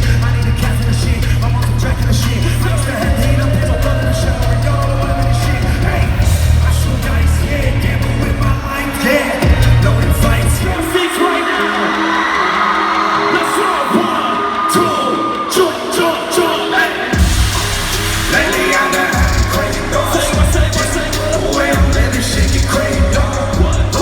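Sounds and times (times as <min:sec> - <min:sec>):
live concert music with singing: 0:00.0 - 0:24.0
crowd whooping and yelling: 0:00.1 - 0:24.0.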